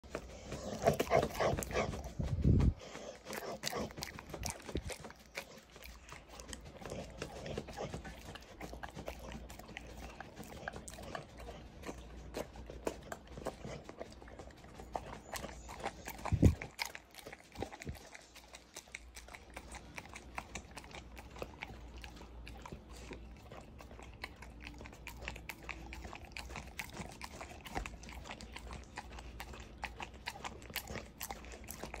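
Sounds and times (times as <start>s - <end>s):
dog licking and smacking: 0.0s - 32.0s.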